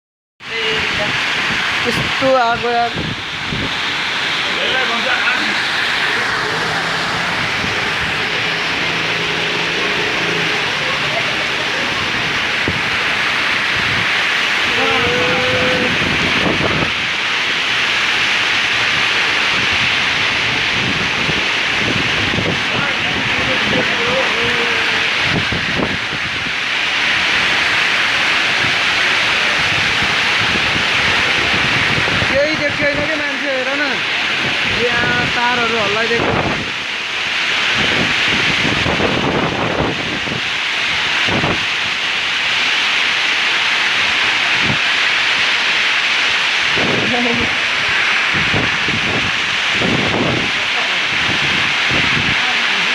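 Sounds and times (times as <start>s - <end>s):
heavy rain pouring: 0.4s - 52.9s
wind buffeting microphone: 0.5s - 52.9s.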